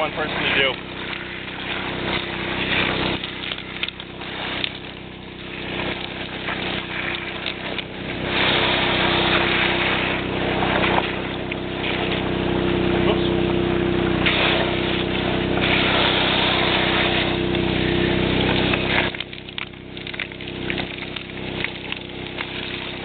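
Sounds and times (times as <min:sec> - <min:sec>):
engine running steadily: 0:00.0 - 0:23.0
water and gravel rattling through nozzle: 0:00.0 - 0:23.0.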